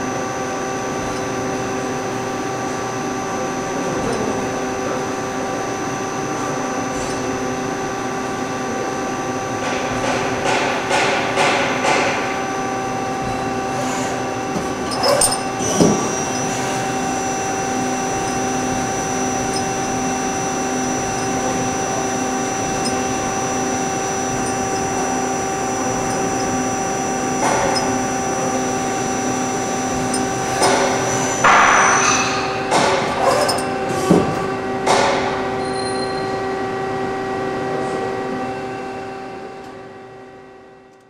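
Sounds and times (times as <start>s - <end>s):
lathe machine humming and whining: 0.0s - 41.0s.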